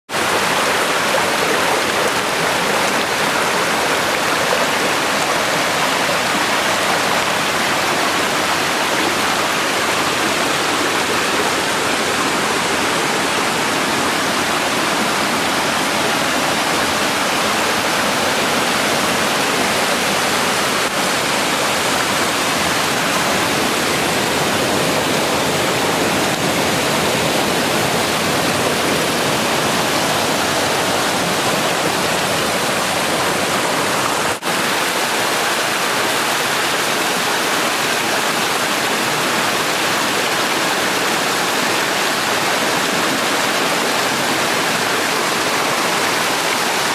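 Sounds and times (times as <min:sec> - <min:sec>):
fast-flowing water rushing: 0:00.1 - 0:46.9.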